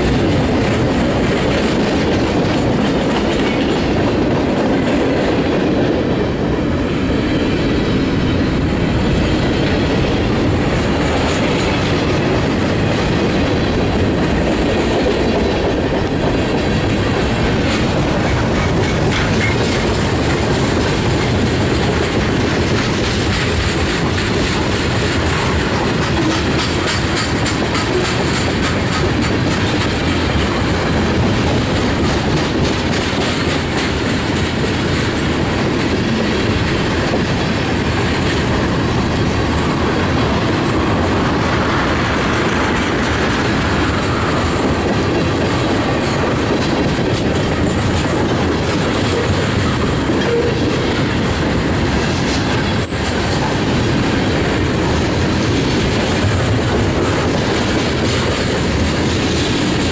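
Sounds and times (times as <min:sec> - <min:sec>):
freight train rumbling past: 0:00.0 - 0:59.9
steel wheels clattering over rail joints: 0:00.0 - 0:59.9.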